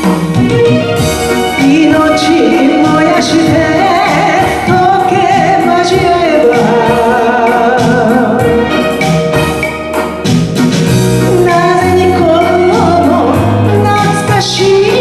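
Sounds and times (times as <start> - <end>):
woman singing a ballad: 0.0 - 9.0, 11.3 - 15.0
instrumental backing: 0.0 - 15.0.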